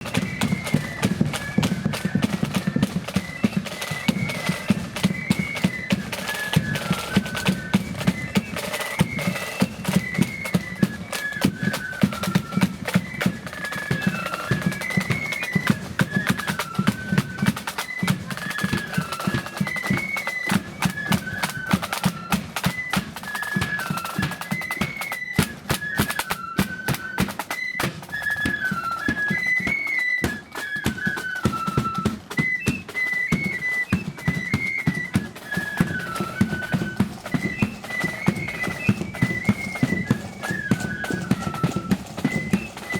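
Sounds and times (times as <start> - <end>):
flute melody: 0.0 - 42.9
snare drums rattling: 0.0 - 42.9.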